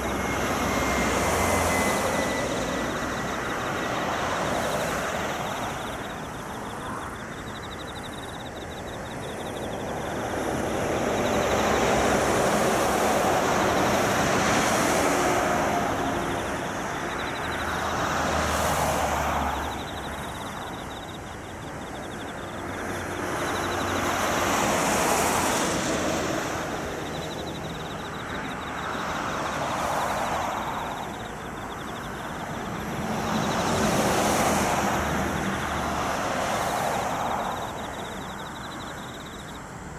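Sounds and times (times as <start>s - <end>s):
traffic passing by: 0.0s - 39.9s.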